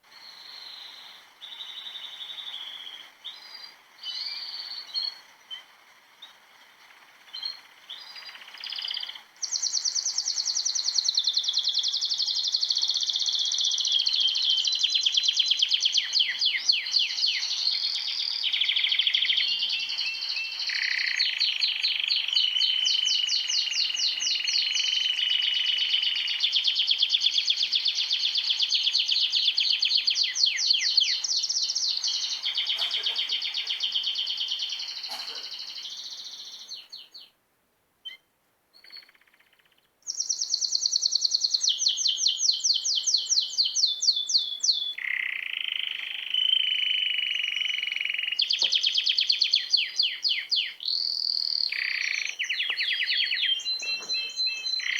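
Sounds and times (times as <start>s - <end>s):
small birds chirping and trilling: 0.0s - 37.4s, 38.8s - 54.9s.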